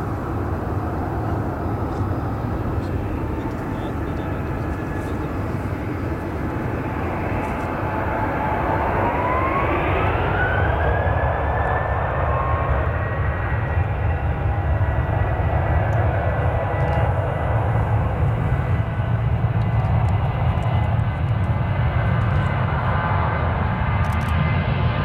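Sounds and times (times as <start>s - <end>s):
jet engines spooling up: 0.0s - 24.4s.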